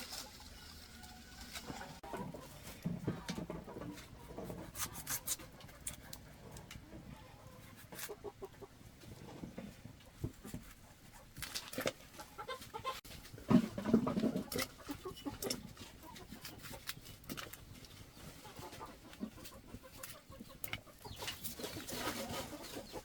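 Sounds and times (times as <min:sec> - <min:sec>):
rustling: 0:00.0 - 0:08.2, 0:08.9 - 0:23.0
chickens clucking: 0:00.0 - 0:23.0.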